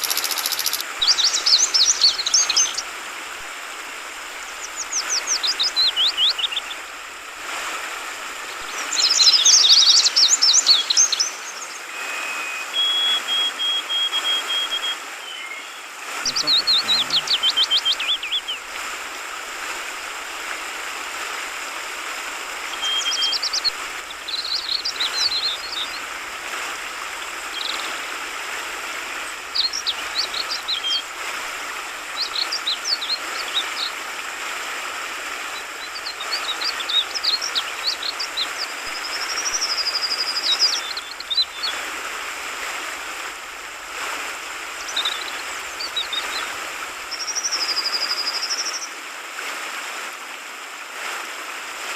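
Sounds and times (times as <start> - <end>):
flowing water babbling: 0.0 - 51.9.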